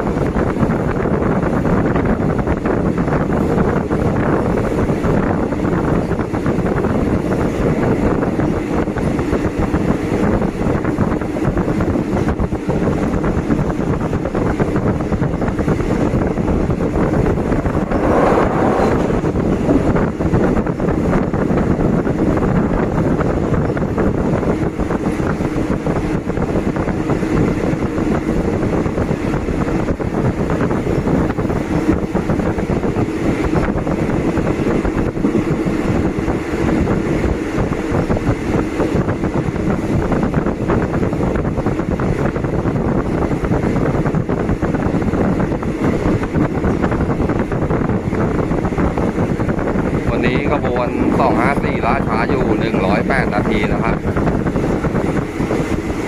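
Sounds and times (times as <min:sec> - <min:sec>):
train wheels rumbling on rails: 0:00.0 - 0:56.0
wind rushing over microphone: 0:00.0 - 0:56.0.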